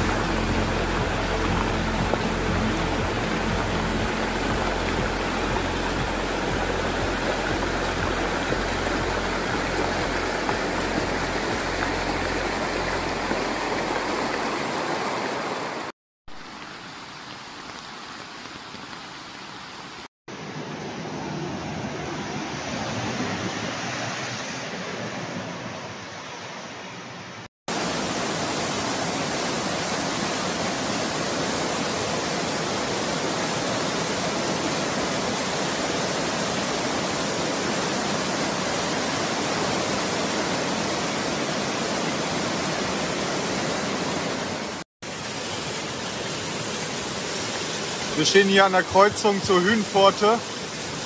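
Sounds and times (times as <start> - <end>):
floodwater rushing: 0.0 - 26.7, 27.7 - 51.0.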